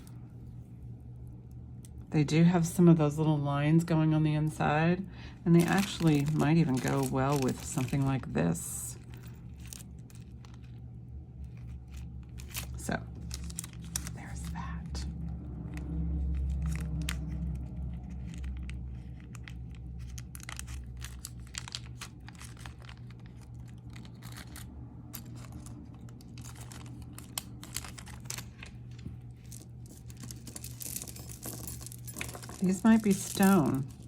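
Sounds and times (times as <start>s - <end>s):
steady low hum: 0.0s - 34.0s
crinkling: 5.5s - 34.0s.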